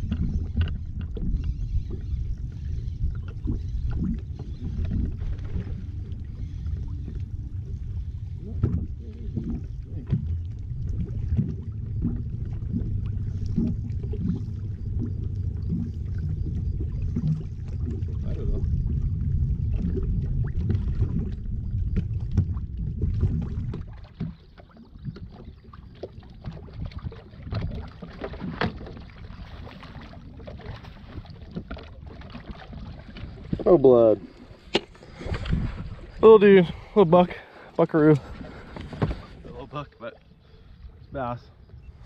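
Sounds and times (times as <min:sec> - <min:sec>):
low rumble of water and wind: 0:00.0 - 0:42.0.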